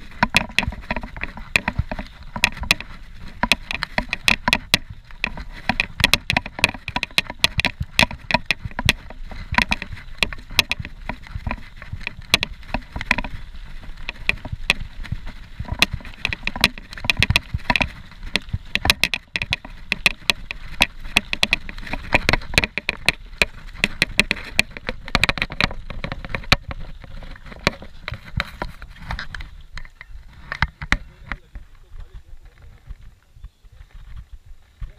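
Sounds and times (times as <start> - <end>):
bike rattling over bumps: 0.0 - 34.9
bike tyres rumbling on dirt trail: 0.0 - 34.9.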